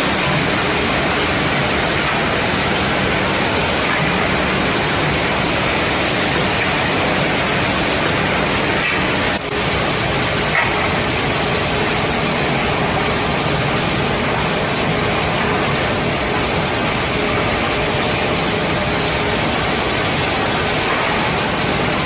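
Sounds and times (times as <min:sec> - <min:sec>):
woodworking machinery running: 0:00.0 - 0:22.0.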